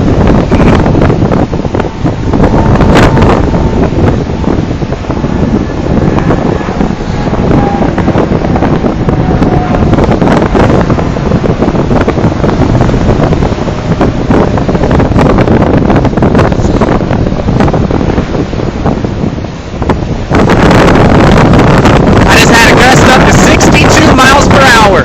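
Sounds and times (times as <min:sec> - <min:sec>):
surf breaking: 0:00.0 - 0:25.0
wind buffeting microphone: 0:00.0 - 0:25.0.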